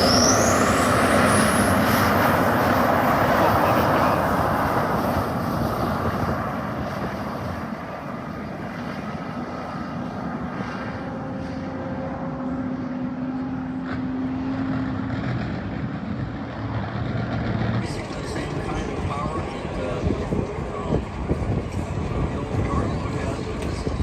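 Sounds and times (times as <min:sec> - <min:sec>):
engine whine rising in pitch: 0:00.0 - 0:24.0
jet engines roaring: 0:00.0 - 0:24.0.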